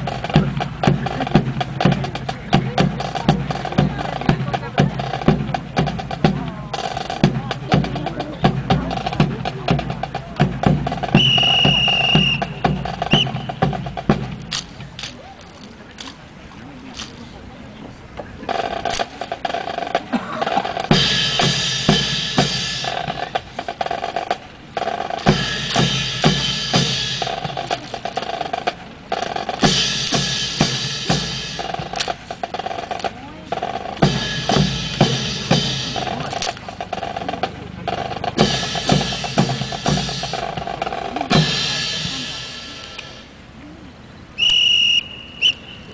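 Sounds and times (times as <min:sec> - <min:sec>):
snare drum rolls: 0:00.0 - 0:15.2, 0:18.5 - 0:43.3
heavy drum beats: 0:00.0 - 0:15.3, 0:18.5 - 0:43.4.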